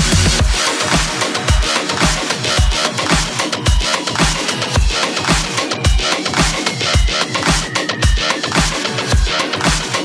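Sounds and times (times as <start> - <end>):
music with heavy bass drum beat: 0.0 - 10.0.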